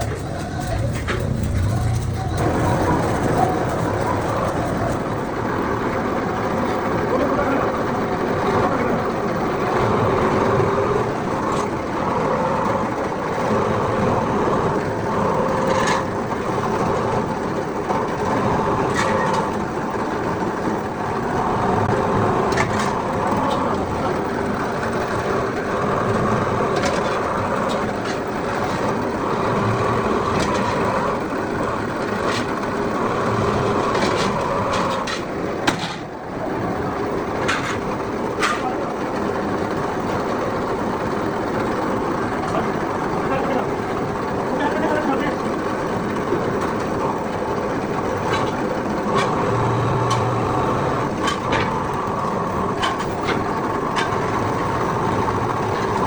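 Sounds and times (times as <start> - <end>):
workshop machinery running: 0.0 - 56.0.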